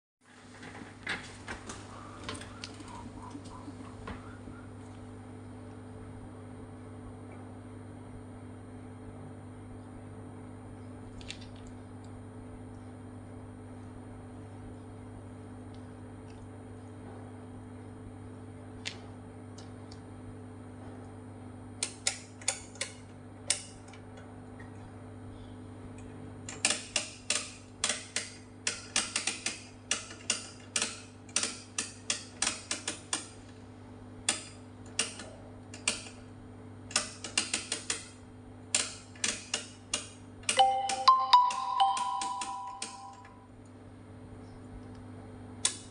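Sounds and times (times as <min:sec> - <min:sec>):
low electrical hum: 0:00.2 - 0:45.9.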